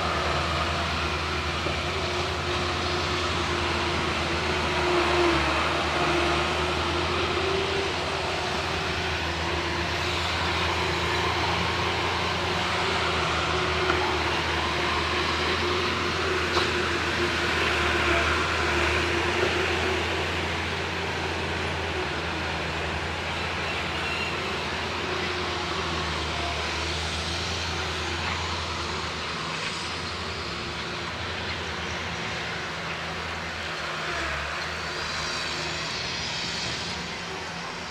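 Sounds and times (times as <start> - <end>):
engine running with low hum: 0.0 - 37.9.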